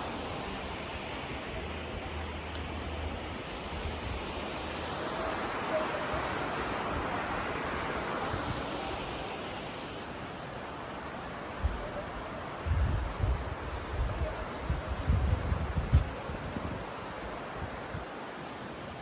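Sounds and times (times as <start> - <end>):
river water rushing: 0.0 - 12.7, 16.2 - 19.0.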